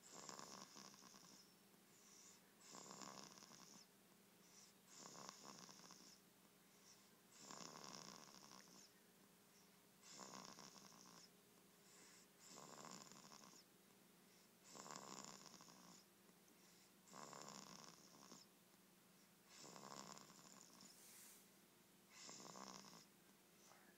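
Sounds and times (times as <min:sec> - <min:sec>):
girl snoring softly: 0:00.0 - 0:13.7, 0:14.3 - 0:18.5, 0:19.5 - 0:21.5, 0:22.1 - 0:23.9.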